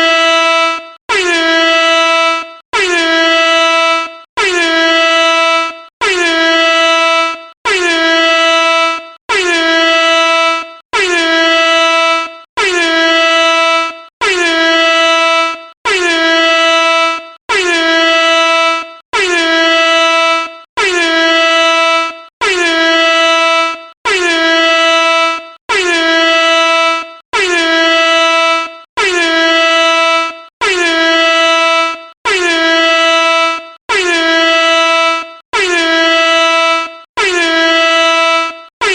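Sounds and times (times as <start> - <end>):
air horn blasts: 0.0 - 38.9.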